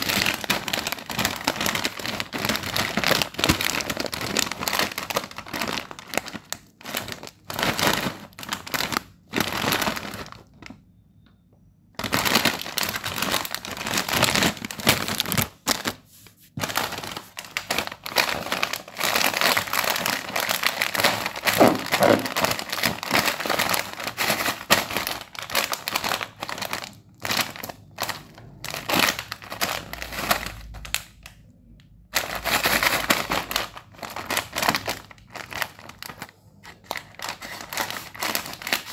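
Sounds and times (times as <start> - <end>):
plastic snack packets crinkling: 0.0 - 10.9, 12.0 - 38.9.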